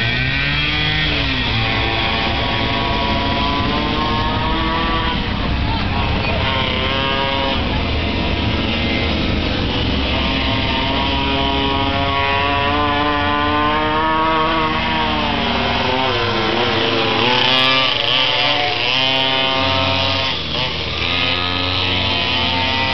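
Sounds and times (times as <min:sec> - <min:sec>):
small two-stroke engines racing: 0:00.0 - 0:22.9.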